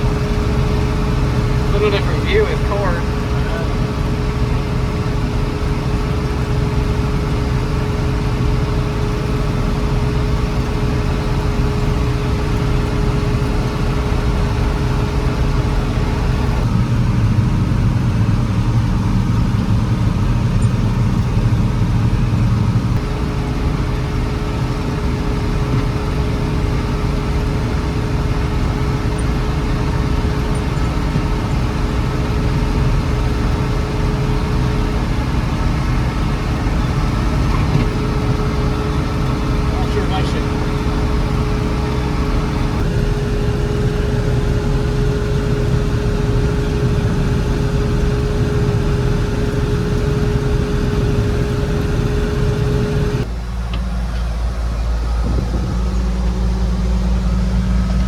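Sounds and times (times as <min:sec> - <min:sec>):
combine engine drone: 0:00.0 - 0:58.0
constant hum: 0:00.0 - 0:58.0.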